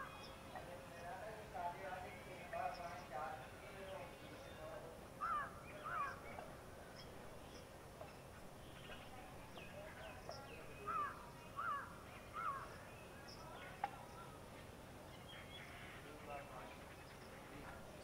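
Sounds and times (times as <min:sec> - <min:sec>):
birds calling: 0:02.2 - 0:14.4, 0:15.0 - 0:18.0.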